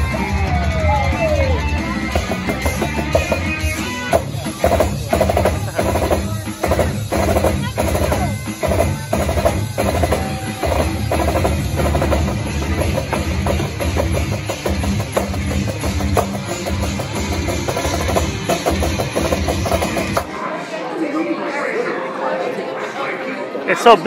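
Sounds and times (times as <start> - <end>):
music: 0.0 - 20.4.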